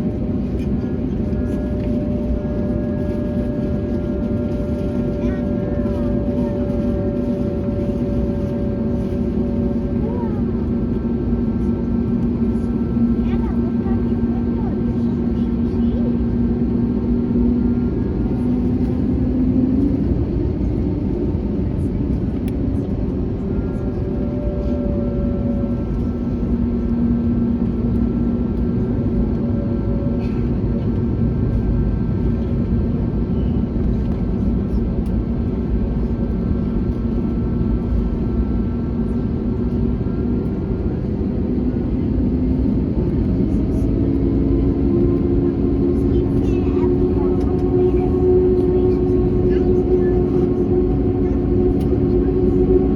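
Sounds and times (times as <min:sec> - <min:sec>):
jet engines humming: 0:00.0 - 0:52.9.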